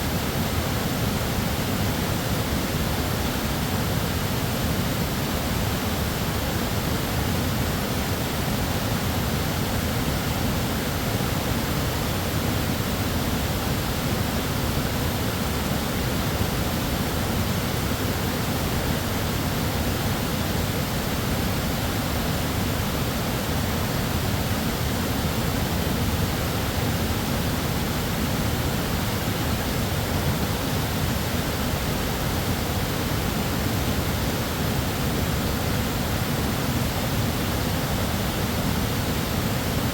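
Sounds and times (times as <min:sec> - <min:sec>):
waterfall roaring over rock: 0:00.0 - 0:39.9.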